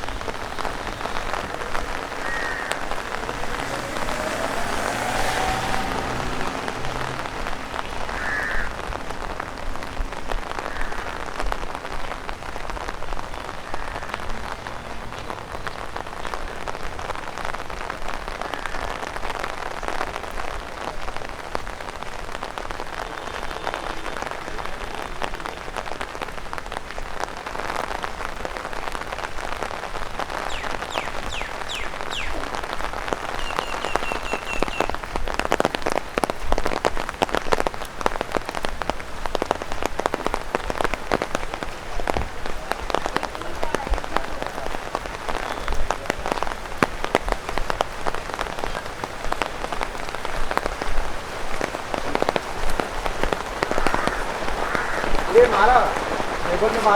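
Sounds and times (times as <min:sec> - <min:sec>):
rain tapping on an umbrella: 0:00.0 - 0:56.9.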